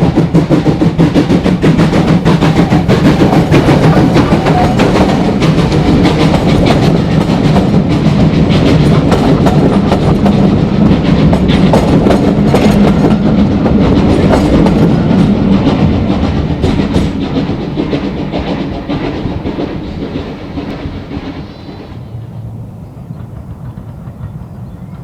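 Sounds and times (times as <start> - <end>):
steam train rumble: 0.0 - 25.0
train wheels clicking on rail joints: 0.0 - 25.0.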